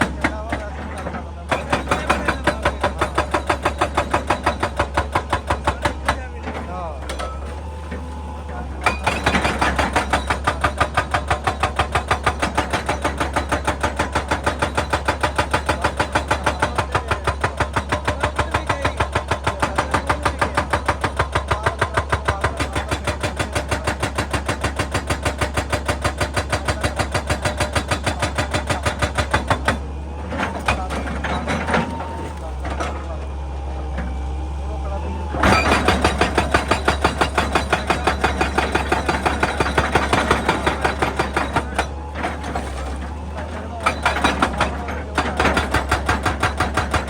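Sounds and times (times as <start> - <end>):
hydraulic breaker hammering rock: 0.0 - 47.0.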